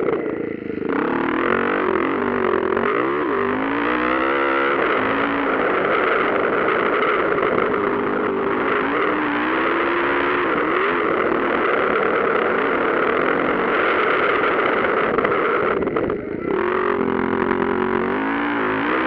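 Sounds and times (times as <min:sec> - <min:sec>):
motocross bikes racing: 0:00.0 - 0:19.0.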